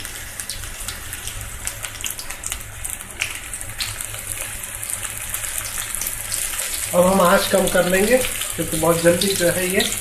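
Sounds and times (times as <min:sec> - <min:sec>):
batter deep-frying in oil: 0:00.0 - 0:10.0.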